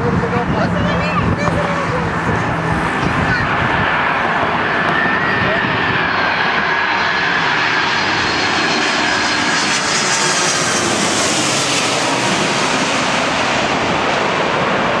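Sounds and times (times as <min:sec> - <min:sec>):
airliner engine rush: 0:00.0 - 0:15.0
faint engine whine: 0:00.0 - 0:15.0.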